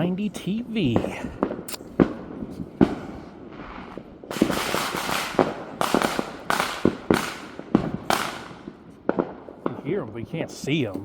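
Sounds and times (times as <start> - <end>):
firecrackers popping and crackling: 0.8 - 9.8.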